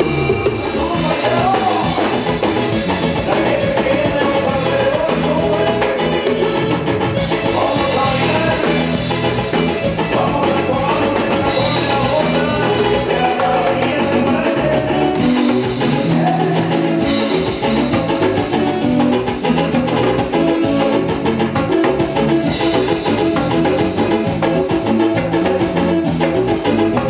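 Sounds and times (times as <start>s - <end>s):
live band playing dance music: 0.0s - 27.0s.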